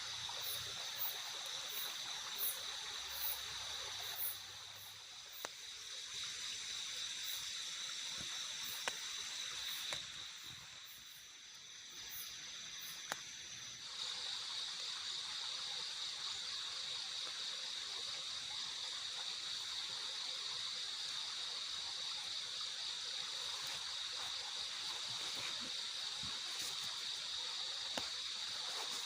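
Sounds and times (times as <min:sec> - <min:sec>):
insect chorus: 0:00.0 - 0:29.0
light drizzle hissing: 0:00.0 - 0:29.0.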